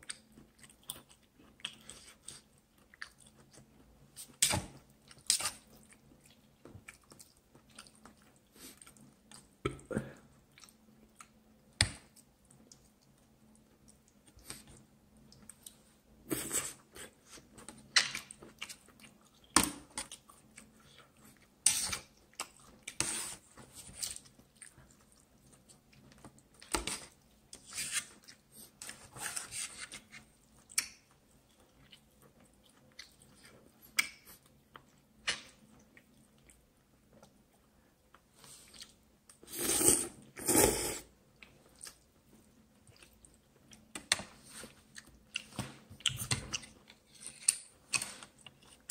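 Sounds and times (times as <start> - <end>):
person chewing noodles: 0.0 - 9.6, 10.3 - 11.4, 12.1 - 27.6, 30.2 - 37.4, 38.0 - 48.9.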